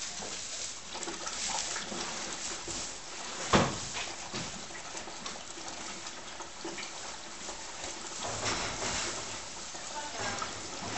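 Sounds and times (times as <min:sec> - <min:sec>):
horse chewing hay: 0:00.0 - 0:10.9.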